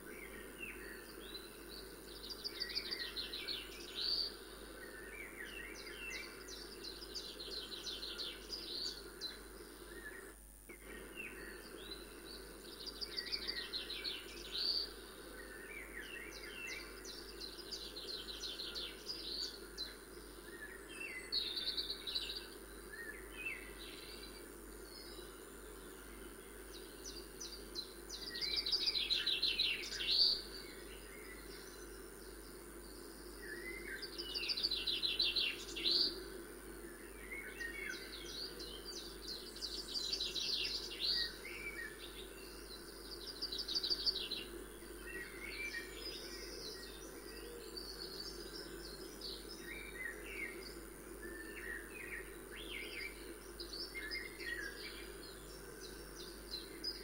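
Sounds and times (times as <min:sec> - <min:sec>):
birds singing with trills: 0:00.0 - 0:57.0
steady low hum: 0:00.0 - 0:57.0.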